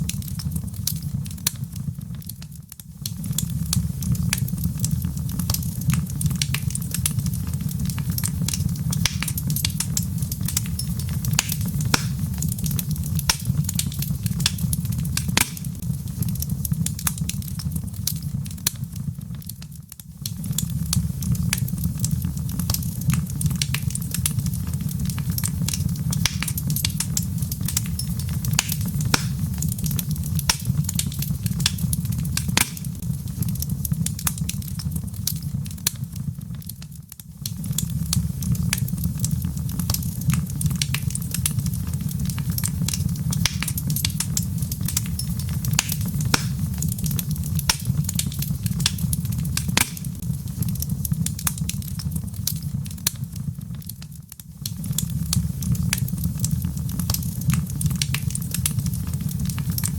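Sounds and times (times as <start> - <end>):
flames rushing: 0.0 - 59.9
logs crackling and popping: 0.0 - 59.9.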